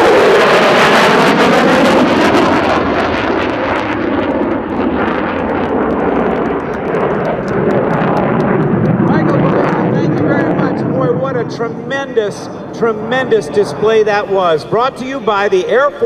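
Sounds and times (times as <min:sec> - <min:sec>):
jet engine roaring: 0:00.0 - 0:16.0.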